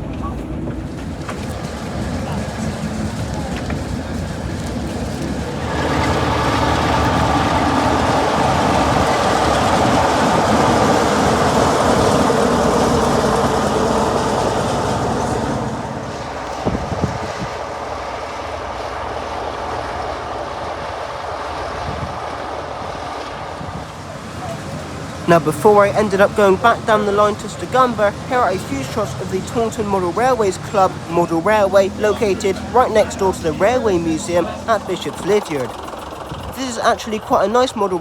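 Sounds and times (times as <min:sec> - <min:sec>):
train rolling rumble: 0:00.0 - 0:38.0.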